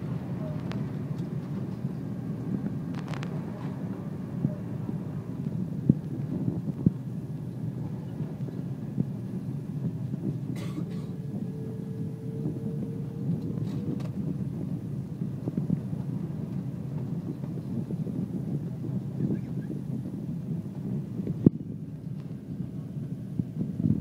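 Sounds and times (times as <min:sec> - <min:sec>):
faint hum: 0:00.0 - 0:22.1
airliner cabin engine rumble: 0:00.0 - 0:24.0.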